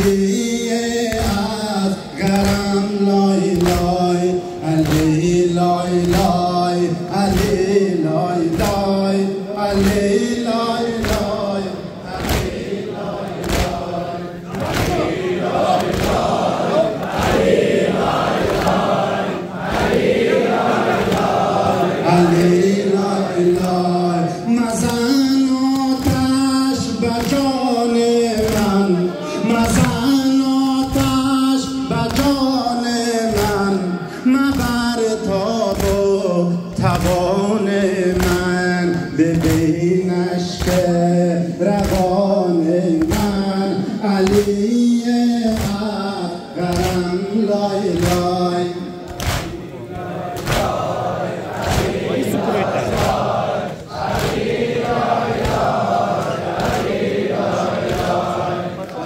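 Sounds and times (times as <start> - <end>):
men chanting a lament: 0.0 - 59.0
rhythmic chest slapping: 0.0 - 59.0.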